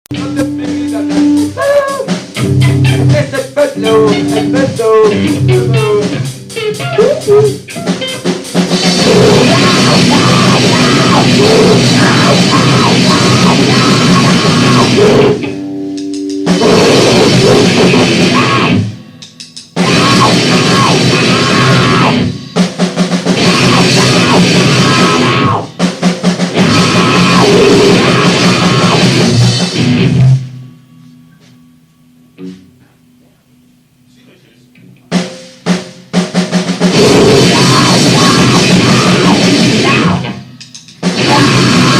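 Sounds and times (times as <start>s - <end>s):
distorted noise-rock band: 0.1s - 41.9s.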